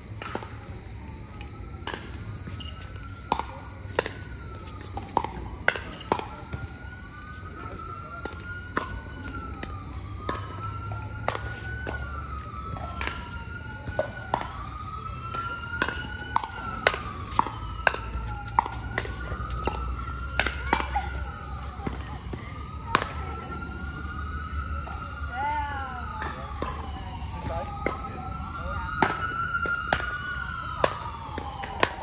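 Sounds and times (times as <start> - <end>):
siren wailing: 0.0 - 32.0.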